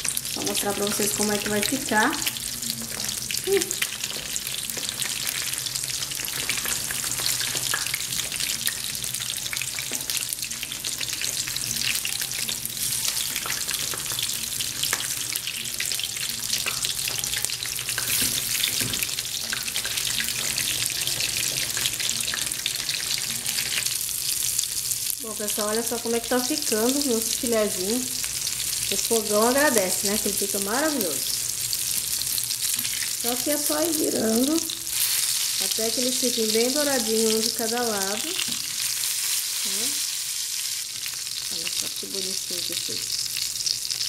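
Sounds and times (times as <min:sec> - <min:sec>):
fish frying in hot oil: 0:00.0 - 0:44.0.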